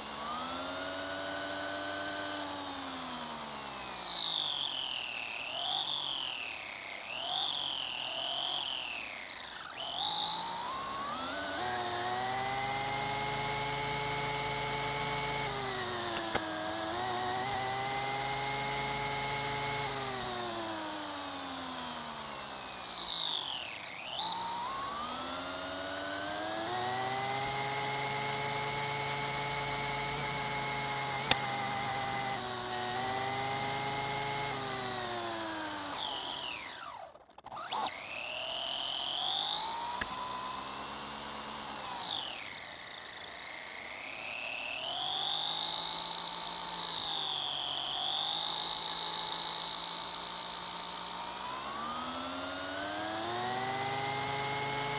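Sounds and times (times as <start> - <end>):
rc car motor whining: 0.0 - 54.9.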